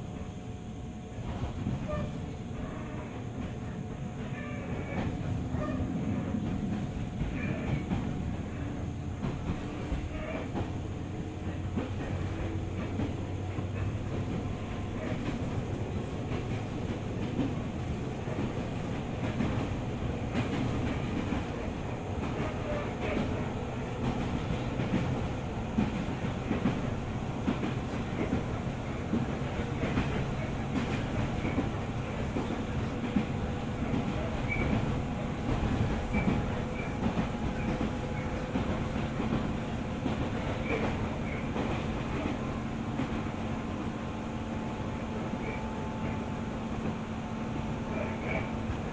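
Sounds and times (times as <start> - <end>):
rail joint clicks: 0.0 - 48.9
train wheels rumbling: 0.0 - 48.9.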